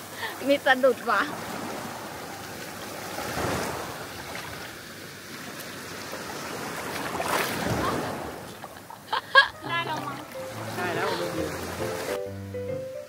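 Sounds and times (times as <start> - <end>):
sea waves surging: 0.0 - 12.4.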